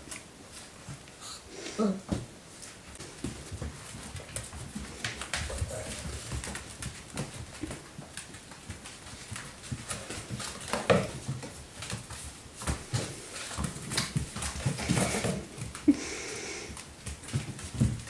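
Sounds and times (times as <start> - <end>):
puppy claws clicking on floor: 2.6 - 15.9, 16.7 - 18.0.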